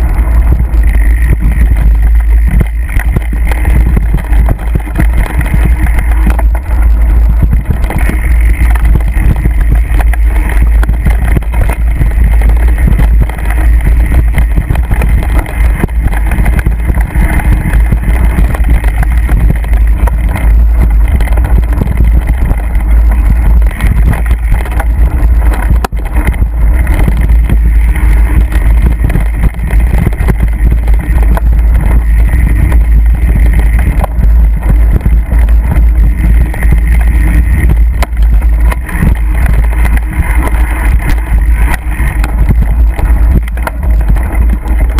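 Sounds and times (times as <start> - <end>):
bike rattling and knocking: 0.0 - 44.9
wind rumble on microphone: 0.0 - 44.9.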